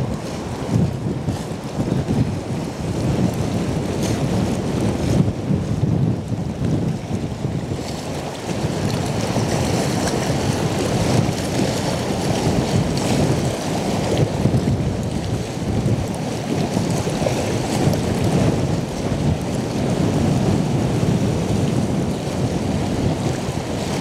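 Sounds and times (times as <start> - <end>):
gusty wind buffeting microphone: 0.0 - 24.0.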